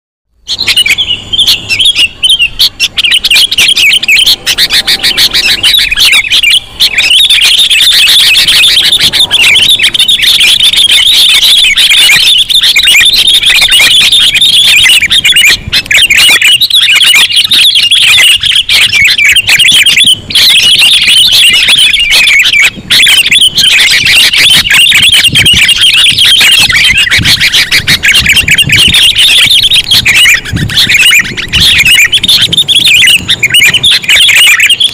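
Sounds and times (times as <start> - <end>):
bird calls rapid chirps: 0.4 - 34.9.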